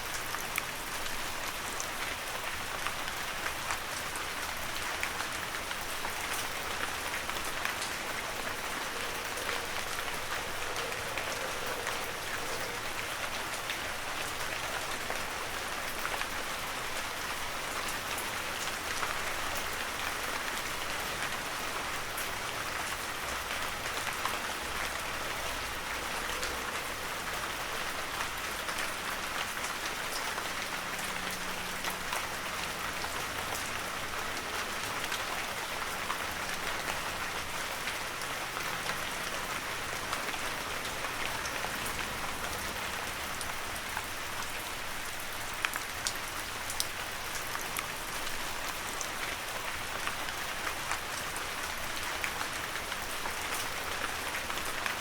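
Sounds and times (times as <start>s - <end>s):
raindrops ticking on surfaces: 0.0s - 55.0s.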